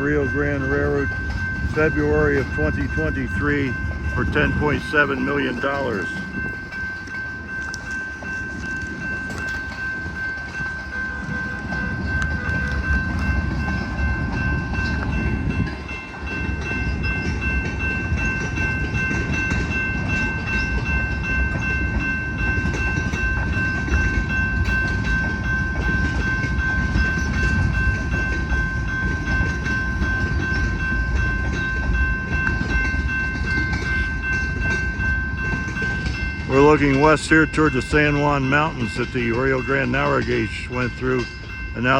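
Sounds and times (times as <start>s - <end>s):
diesel locomotive rumble: 0.0s - 41.9s.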